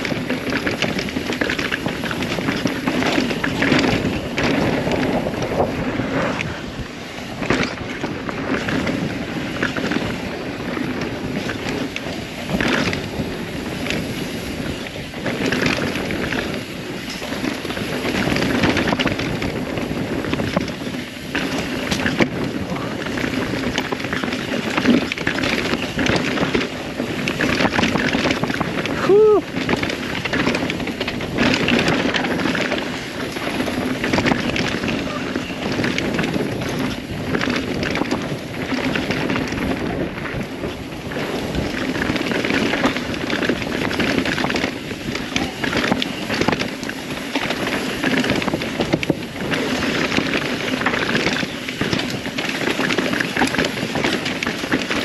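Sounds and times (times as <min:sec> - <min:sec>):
bike knocks and rattles: 0:00.0 - 0:55.0
tyres rolling on dirt: 0:00.0 - 0:55.0
wind on microphone: 0:00.0 - 0:55.0.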